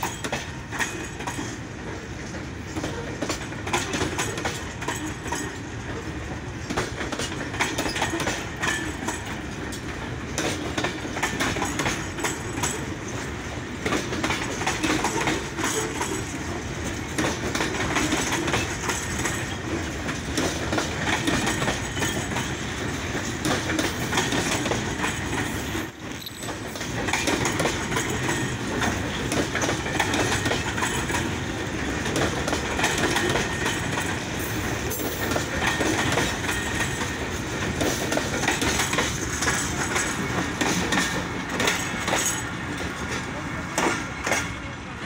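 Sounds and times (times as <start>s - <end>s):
train wheels clattering over rail joints: 0.0s - 44.7s.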